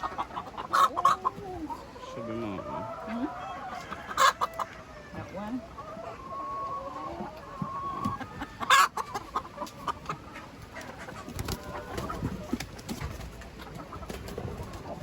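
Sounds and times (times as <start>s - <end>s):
hens clucking and squawking: 0.0s - 15.0s.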